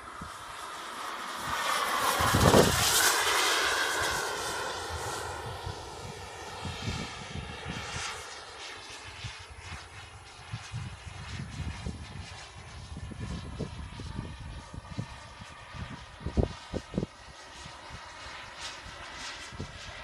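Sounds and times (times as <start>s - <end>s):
jet turbine whine passing: 0.0s - 20.0s.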